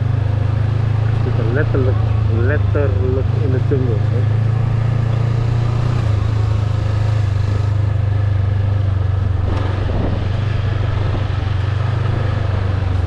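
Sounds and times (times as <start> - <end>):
motorbike engine running: 0.0 - 13.0
road and wind noise: 0.0 - 13.0.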